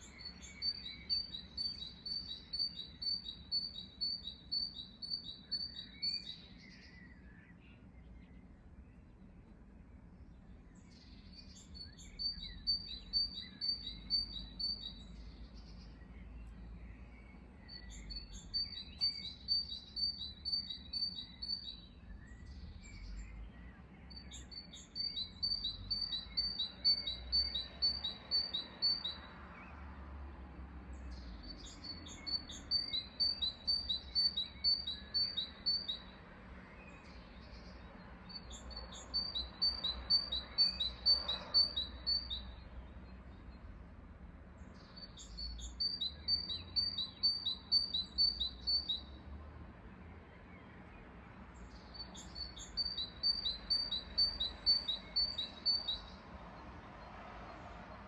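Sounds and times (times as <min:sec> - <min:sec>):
songbird high chirps: 0:00.0 - 0:43.8, 0:44.5 - 0:49.3, 0:50.0 - 0:58.0.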